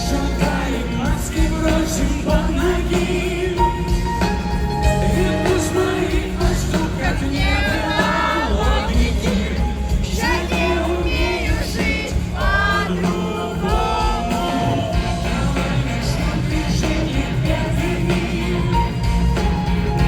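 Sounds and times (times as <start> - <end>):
heavy bass: 0.0 - 20.0
person singing over band: 0.0 - 20.0.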